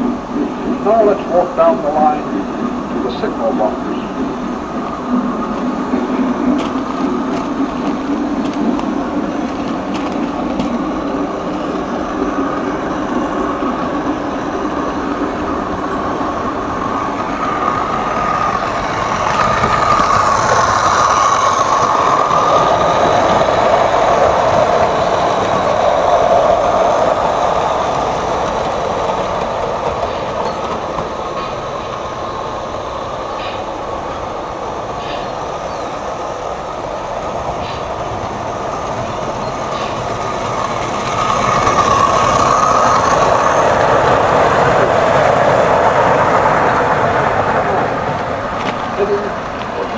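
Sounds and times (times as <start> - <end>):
passing train running noise: 0.0 - 49.9.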